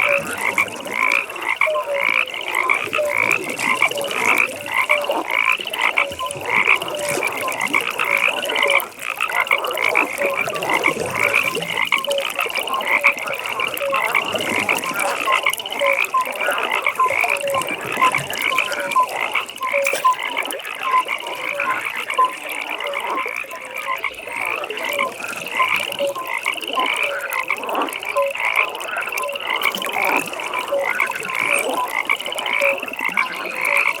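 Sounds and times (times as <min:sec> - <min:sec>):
frogs calling: 0:00.0 - 0:34.0
low frog croaks: 0:00.0 - 0:34.0.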